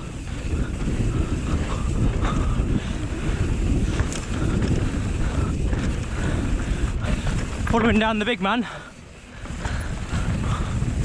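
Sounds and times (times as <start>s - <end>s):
bike tyres rumbling on trail: 0.0s - 11.0s
wind buffeting microphone: 0.0s - 11.0s.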